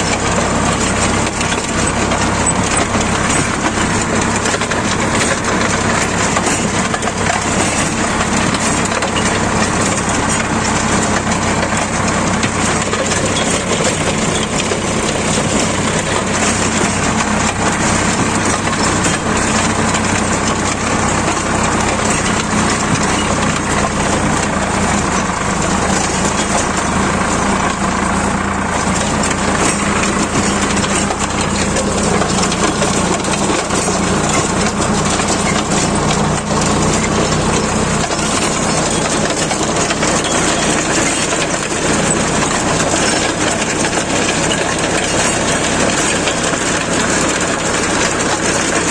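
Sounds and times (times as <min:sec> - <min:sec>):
rotavator churning soil: 0:00.0 - 0:48.9
tractor engine running under load: 0:00.0 - 0:48.9.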